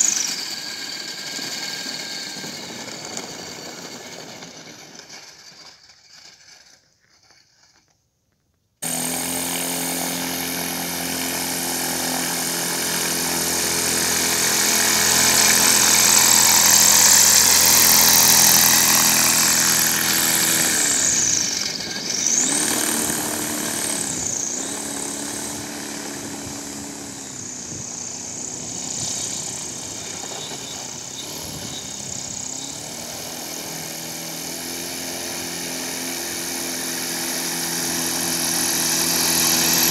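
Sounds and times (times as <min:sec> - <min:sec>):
electric motor and propeller whine: 0:00.0 - 0:05.6, 0:08.8 - 0:39.9.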